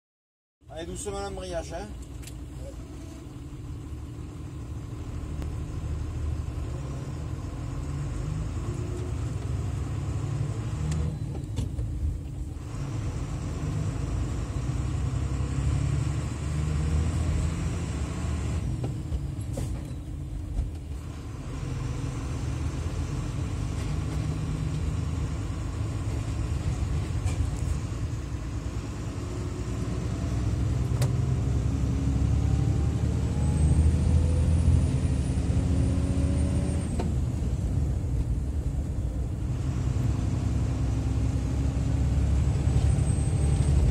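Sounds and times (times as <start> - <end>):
truck diesel engine rumble: 0.6 - 43.9.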